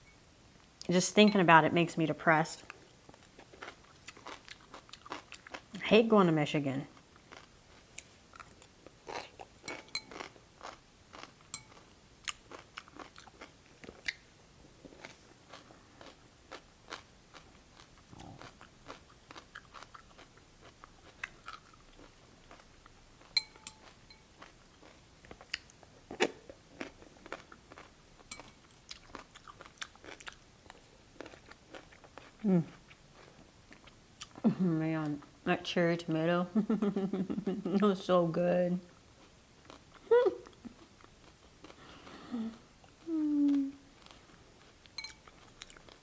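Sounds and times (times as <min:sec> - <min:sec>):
person chewing close up: 0:02.6 - 0:05.8, 0:06.9 - 0:34.4, 0:39.2 - 0:46.0.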